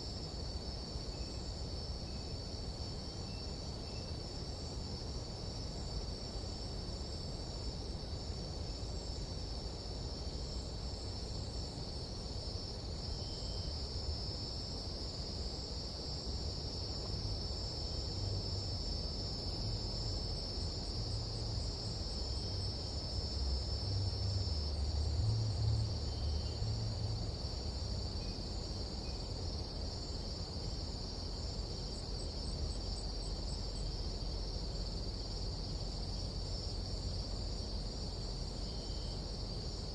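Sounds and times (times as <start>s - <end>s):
insects chirring at night: 0.0s - 39.9s.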